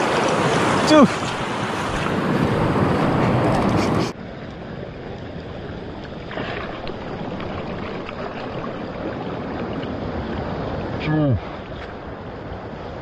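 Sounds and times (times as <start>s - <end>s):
small waves washing: 0.0s - 13.0s
wind rushing on microphone: 0.0s - 13.0s.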